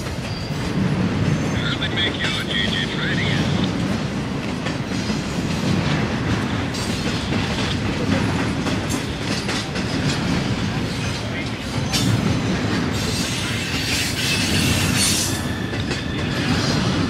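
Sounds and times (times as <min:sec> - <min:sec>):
steel wheels rumbling on rail: 0:00.0 - 0:17.0
wheels clicking over track: 0:00.0 - 0:17.0.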